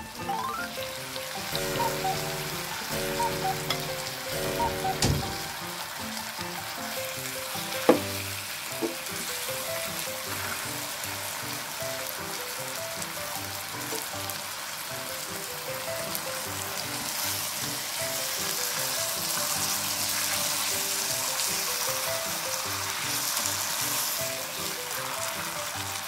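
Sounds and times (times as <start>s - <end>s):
food sizzling in frying pan: 0.0s - 26.0s
soft background music: 0.0s - 26.0s.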